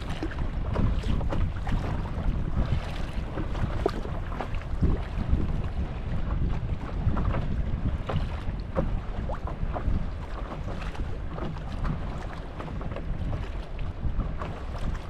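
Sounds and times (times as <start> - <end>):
water lapping against paddle board: 0.0 - 15.0
wind buffeting microphone: 0.0 - 15.0.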